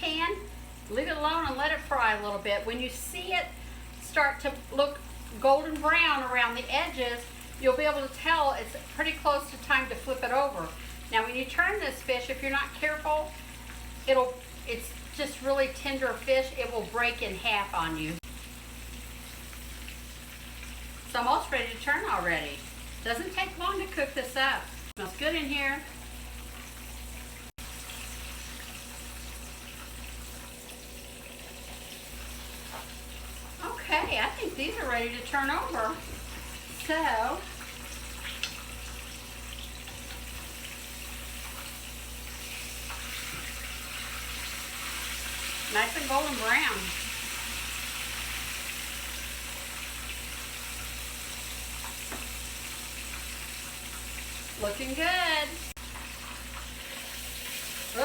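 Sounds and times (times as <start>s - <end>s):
fish sizzling in hot oil: 0.0s - 58.0s.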